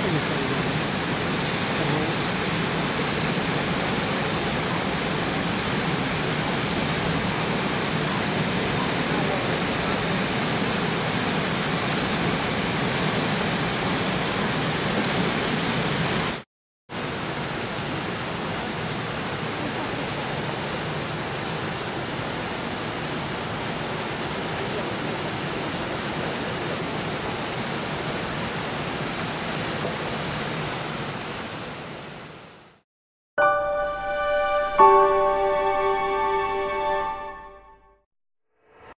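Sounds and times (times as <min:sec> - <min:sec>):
river and waterfall rushing: 0:00.0 - 0:16.4, 0:17.0 - 0:32.8.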